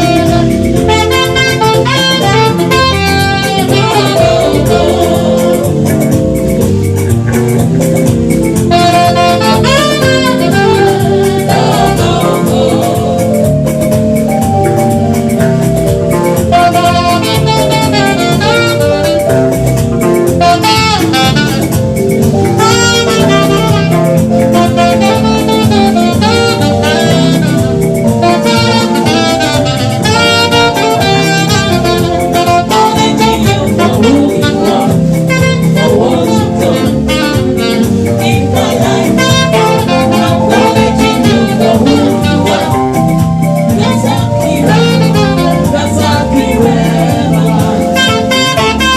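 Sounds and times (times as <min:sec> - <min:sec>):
gospel band accompaniment: 0:00.0 - 0:48.9
saxophone melodic runs: 0:00.0 - 0:48.9.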